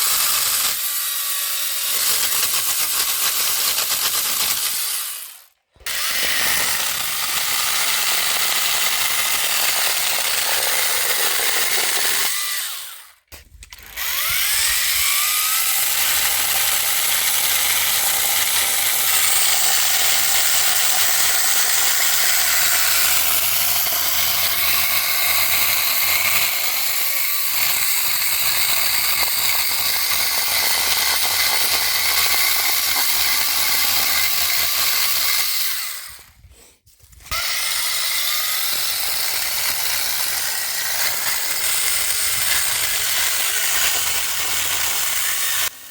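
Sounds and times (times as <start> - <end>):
pole chainsaw cutting wood: 0.0 - 45.9.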